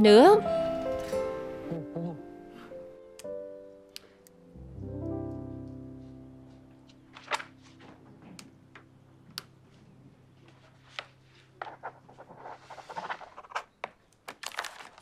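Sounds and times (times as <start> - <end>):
low sustained soundtrack music: 0.0 - 12.6.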